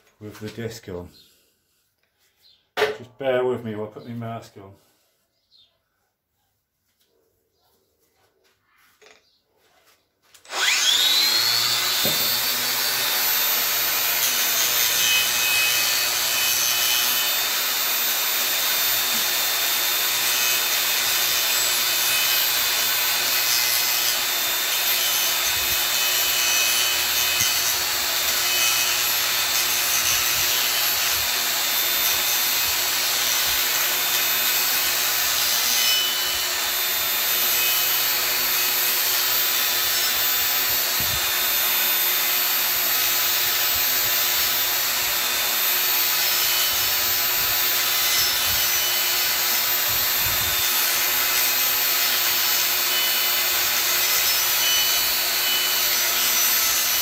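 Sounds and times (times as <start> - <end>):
angle grinder grinding wood: 10.2 - 57.0.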